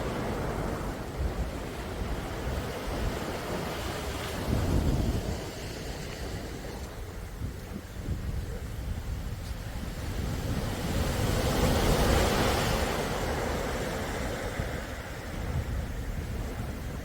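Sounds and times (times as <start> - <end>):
sea waves breaking on shore: 0.0 - 17.0
wind rumble on microphone: 0.0 - 17.0.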